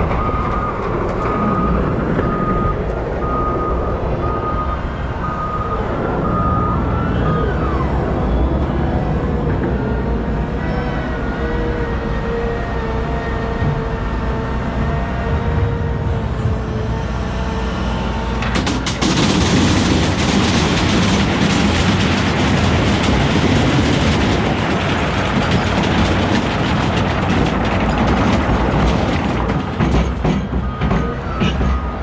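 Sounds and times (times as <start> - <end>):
loud rumbling clatter: 0.0 - 10.7, 13.6 - 32.0
wheel loader engine running: 0.0 - 32.0.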